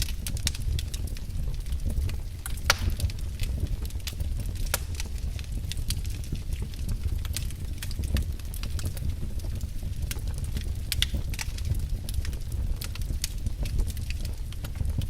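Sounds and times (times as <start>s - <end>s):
firewood crackling and popping: 0.0s - 15.0s
low steady rumble: 0.0s - 15.0s.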